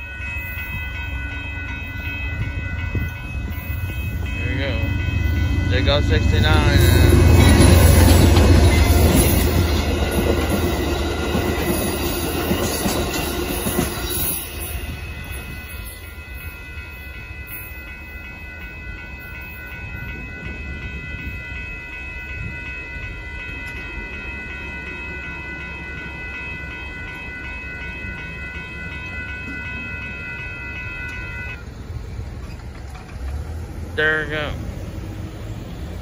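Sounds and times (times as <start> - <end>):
railroad crossing bells ringing: 0.0 - 36.0
train rumbling: 0.0 - 36.0.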